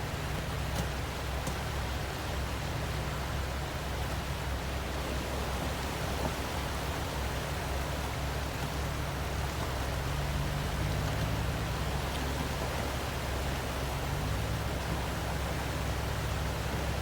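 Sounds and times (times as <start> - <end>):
creek water rushing: 0.0 - 17.0
vehicle engine humming: 0.0 - 17.0.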